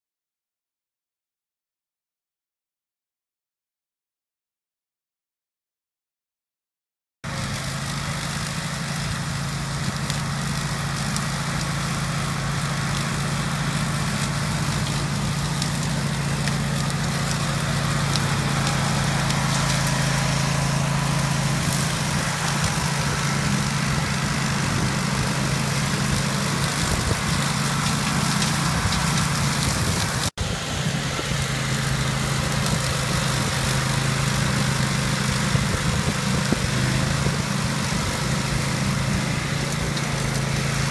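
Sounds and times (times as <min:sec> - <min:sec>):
ride-on mower engine running: 0:07.2 - 0:40.9
rushing noise of mowing grass: 0:07.2 - 0:40.9.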